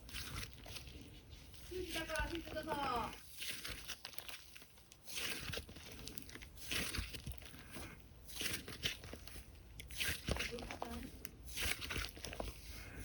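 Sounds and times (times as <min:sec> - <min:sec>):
hands squishing slime: 0:00.0 - 0:13.0.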